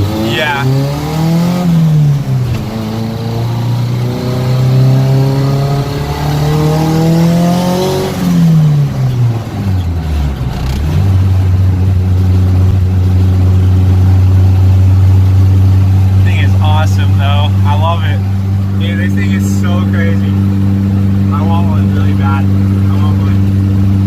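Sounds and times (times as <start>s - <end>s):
turbocharged car engine revving: 0.0s - 24.0s.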